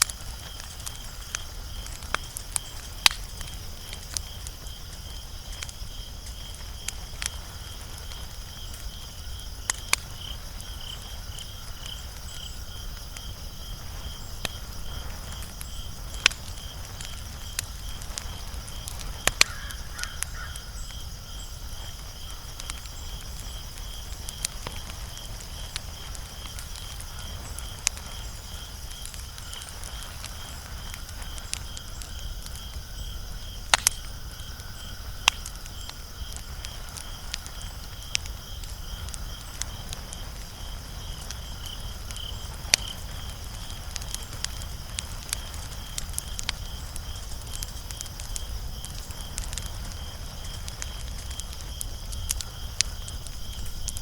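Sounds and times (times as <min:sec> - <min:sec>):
cricket chirping: 0:00.0 - 0:54.0
wood fire crackling and popping: 0:00.0 - 0:54.0.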